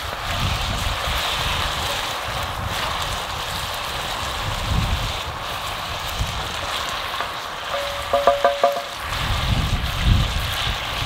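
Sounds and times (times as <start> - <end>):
meat sizzling in a pot: 0.0 - 11.0.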